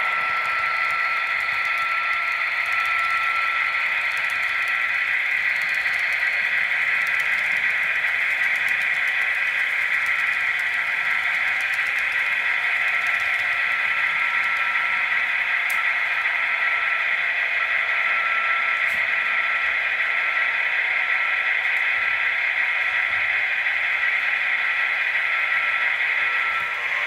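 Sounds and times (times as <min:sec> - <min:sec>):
faint steady whine: 0:00.0 - 0:27.0
model train motors whirring: 0:00.0 - 0:27.0.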